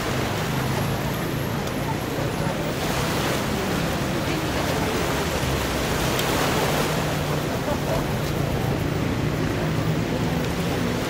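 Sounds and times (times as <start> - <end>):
sea surf washing onto beach: 0.0 - 11.0.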